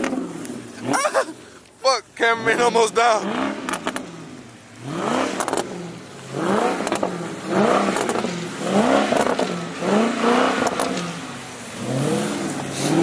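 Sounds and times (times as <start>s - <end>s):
car engine revving in bursts: 0.0s - 13.0s.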